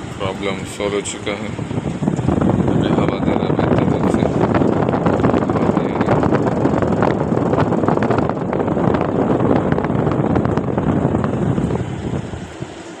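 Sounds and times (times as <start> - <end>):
air cooler blower rushing: 0.0 - 13.0
wind buffeting microphone: 0.0 - 13.0.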